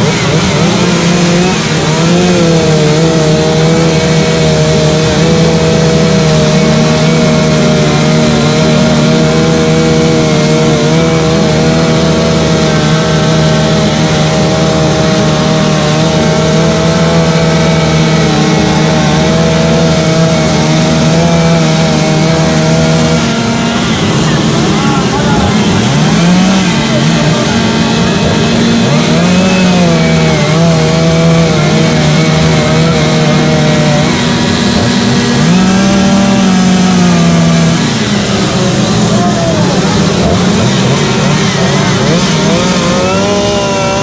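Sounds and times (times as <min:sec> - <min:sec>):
chainsaw carving wood: 0:00.0 - 0:44.0.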